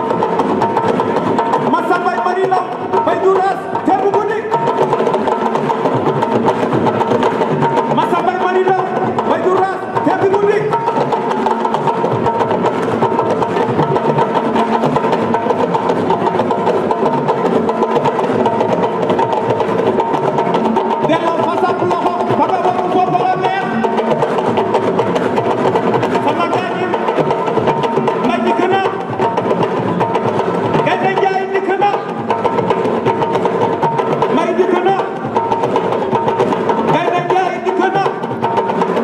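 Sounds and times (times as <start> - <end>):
fast hand drumming: 0.0 - 39.0.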